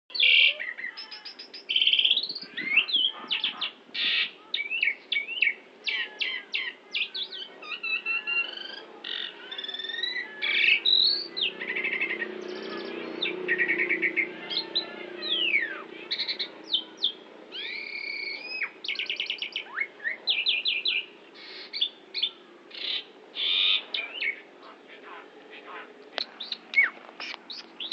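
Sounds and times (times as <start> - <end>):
starling singing varied song: 0.1 - 27.9.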